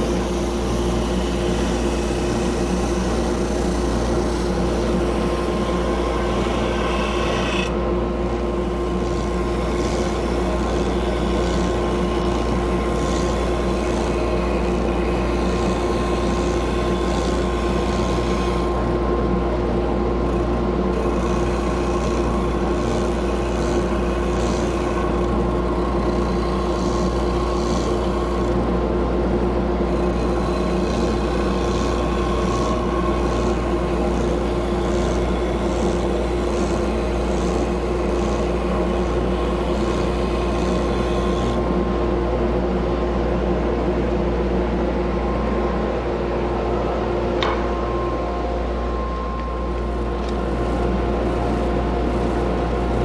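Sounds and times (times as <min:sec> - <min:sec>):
drum sander humming and whining: 0:00.0 - 0:53.0.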